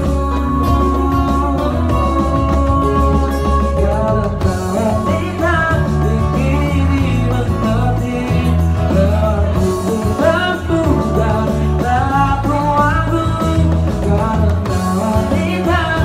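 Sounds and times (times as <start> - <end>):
heavy bass line: 0.0 - 16.0
live pop-rock band: 0.0 - 16.0
male singer singing: 0.0 - 16.0.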